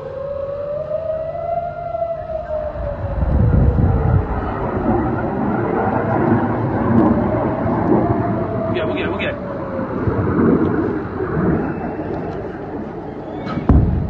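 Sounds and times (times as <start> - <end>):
air-raid siren wailing: 0.0 - 14.0
loud low rumble: 1.0 - 14.0.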